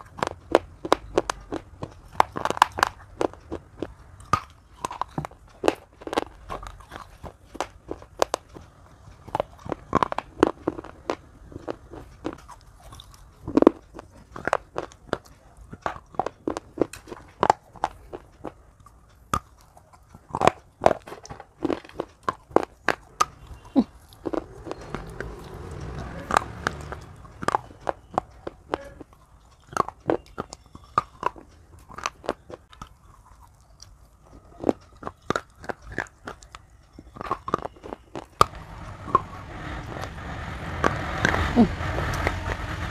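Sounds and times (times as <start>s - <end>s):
clay pipe crunching when chewed: 0.0s - 39.3s.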